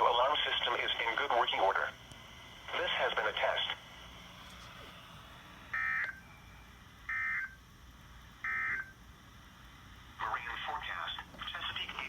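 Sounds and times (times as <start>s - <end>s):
faint radio hiss: 0.0s - 7.1s, 9.0s - 12.0s.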